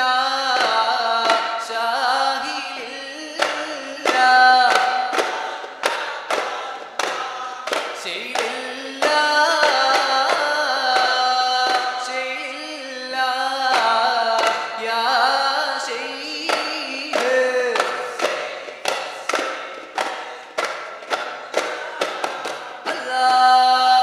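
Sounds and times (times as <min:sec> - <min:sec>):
frame drums beating: 0:00.0 - 0:24.0
person singing: 0:00.0 - 0:24.0.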